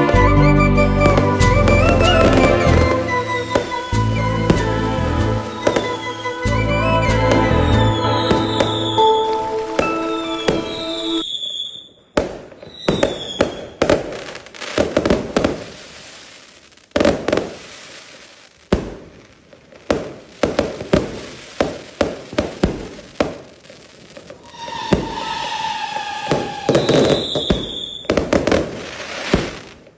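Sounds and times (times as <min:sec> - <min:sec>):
fireworks banging and crackling: 0:00.0 - 0:04.8, 0:05.4 - 0:29.9
whistling firework: 0:00.0 - 0:19.2, 0:19.9 - 0:29.9.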